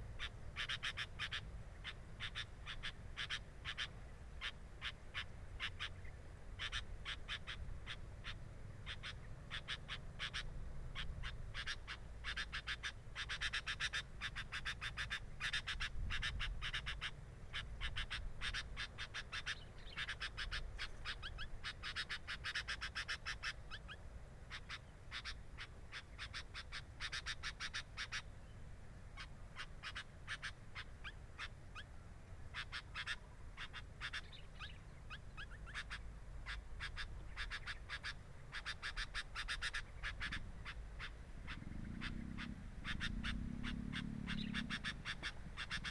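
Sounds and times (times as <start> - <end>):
birds chirping rapidly: 0.0 - 45.9.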